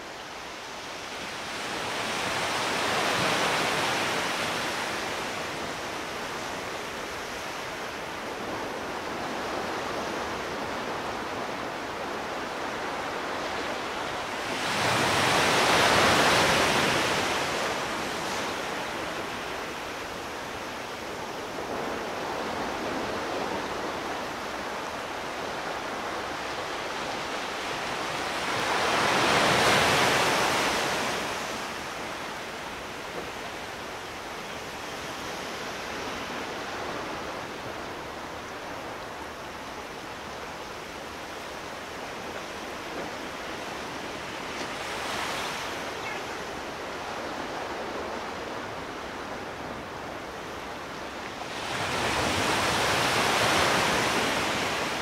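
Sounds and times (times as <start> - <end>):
steady sea noise: 0.0 - 55.0
waves washing onto beach: 0.0 - 55.0.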